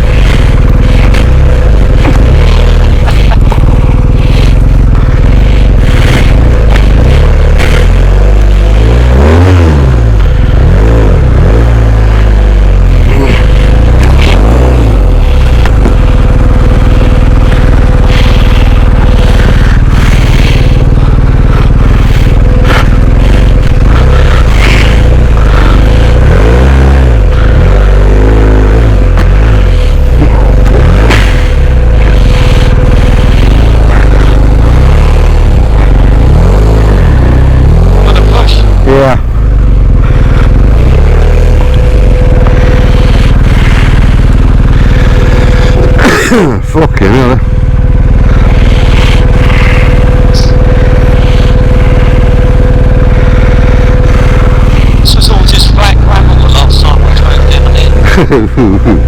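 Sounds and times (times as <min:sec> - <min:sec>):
faint steady whine: 0:00.0 - 0:59.0
motorcycle engine running: 0:00.0 - 0:59.0.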